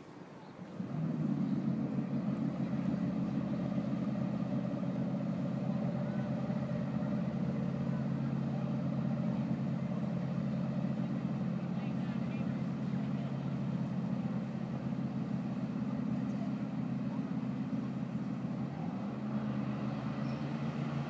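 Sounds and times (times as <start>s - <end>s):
boat engine running: 0.5s - 21.0s.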